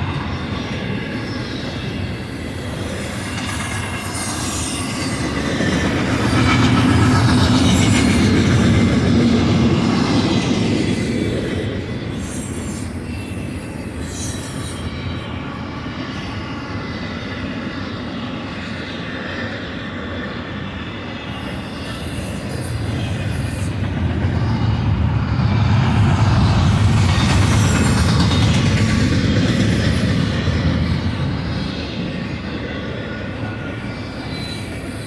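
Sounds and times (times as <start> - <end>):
freight train wheels rumbling on rail: 0.0 - 35.0.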